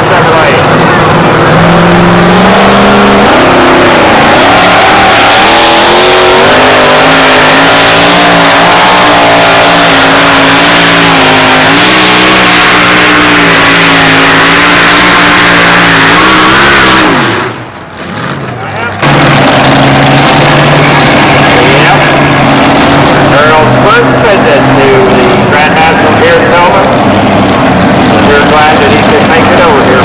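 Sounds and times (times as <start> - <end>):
truck engine at full revs: 0.0 - 30.0.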